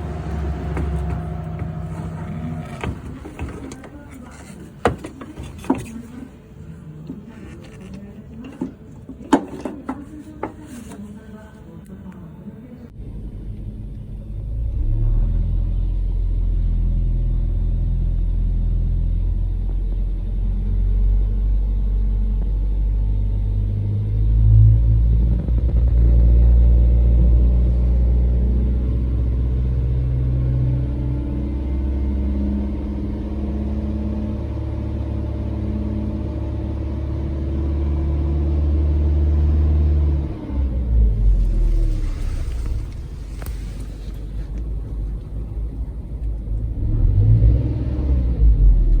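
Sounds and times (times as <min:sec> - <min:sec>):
car engine rumbling: 0:00.0 - 0:49.0.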